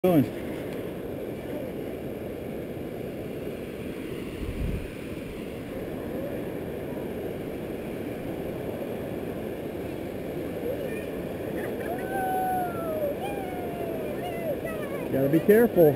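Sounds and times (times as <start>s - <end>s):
river water rushing over rock: 0.1s - 15.9s.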